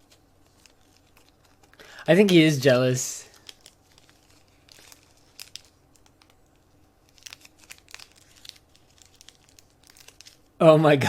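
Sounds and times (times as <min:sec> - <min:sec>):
clicks and crinkling rustles: 0:00.0 - 0:10.6
low room hum: 0:00.0 - 0:11.0.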